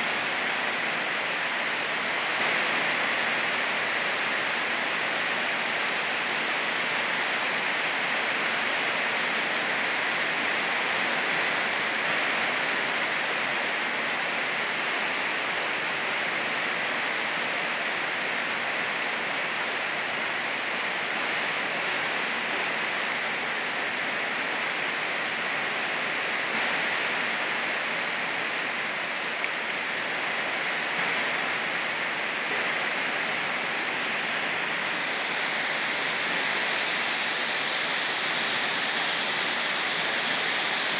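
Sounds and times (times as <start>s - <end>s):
heavy rain on foliage: 0.0s - 40.9s.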